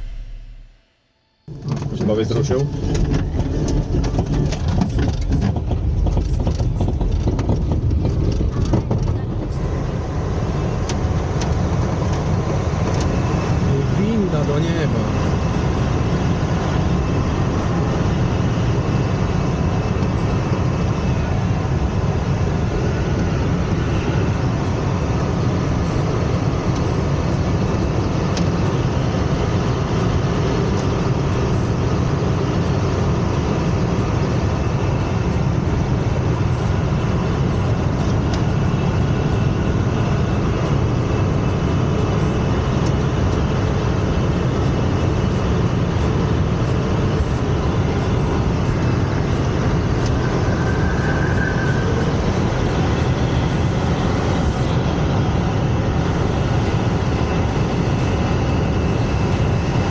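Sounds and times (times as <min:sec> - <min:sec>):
airflow drone: 0:00.0 - 0:01.7, 0:09.2 - 0:59.9
distant plane engine: 0:00.0 - 0:59.9.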